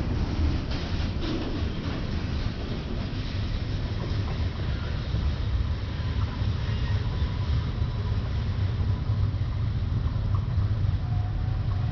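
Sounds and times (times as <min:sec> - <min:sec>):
freight train rumbling past: 0:00.0 - 0:11.9.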